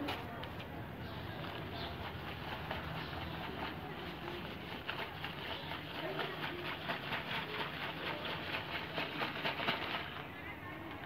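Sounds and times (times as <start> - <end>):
ice rattling in shaken bag: 0.0 - 11.0.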